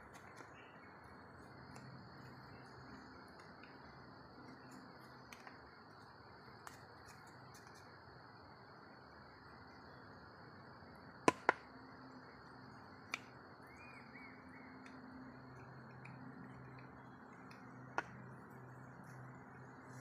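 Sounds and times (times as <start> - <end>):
insect drone: 0.0 - 20.0.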